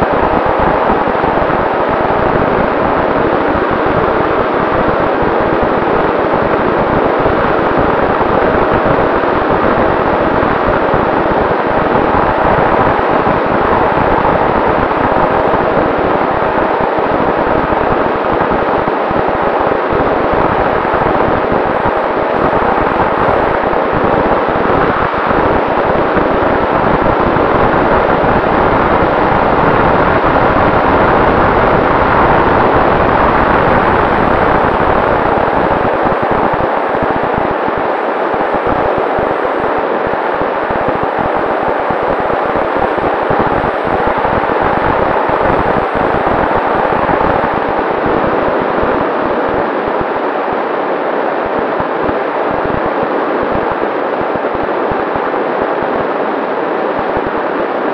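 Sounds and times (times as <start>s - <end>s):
wind rush on microphone: 0.0s - 57.9s.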